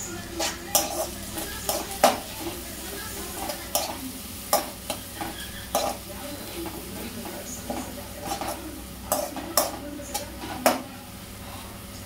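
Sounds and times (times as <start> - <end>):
low frying sizzle: 0.0 - 12.0
metal spatula scraping a wok: 0.3 - 10.8.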